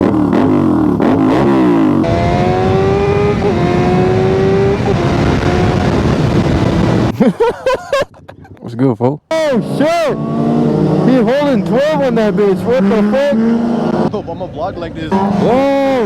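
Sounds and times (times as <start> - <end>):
motorcycle engine revving: 0.0 - 7.1, 9.4 - 16.0.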